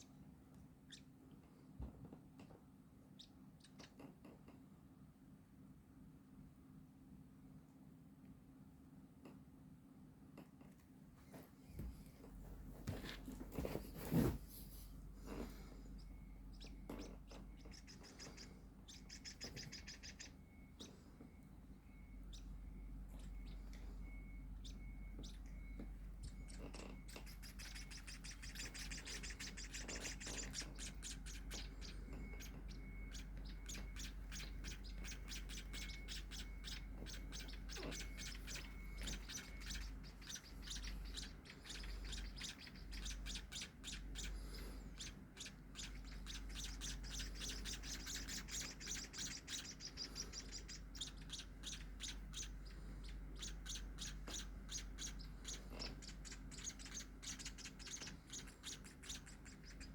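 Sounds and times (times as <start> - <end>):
steady low hum: 0.0 - 59.9
baby birds chirping: 0.8 - 1.1, 3.1 - 4.1, 12.8 - 59.9.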